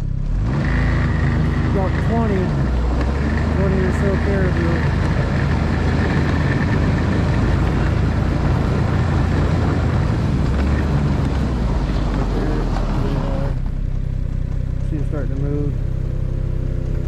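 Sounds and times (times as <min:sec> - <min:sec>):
snowmobile engine droning: 0:00.0 - 0:13.9.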